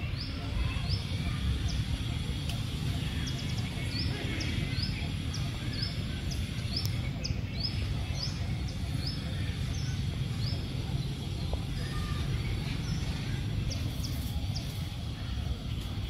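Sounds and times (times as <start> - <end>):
bird chirping: 0.0 - 16.0
low outdoor rumble: 0.0 - 16.0.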